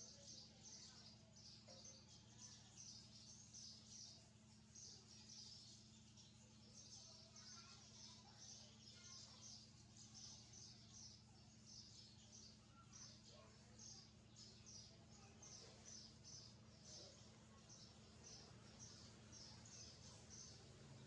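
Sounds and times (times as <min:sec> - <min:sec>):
low electrical hum: 0:00.0 - 0:21.0
young birds chirping: 0:00.0 - 0:21.0.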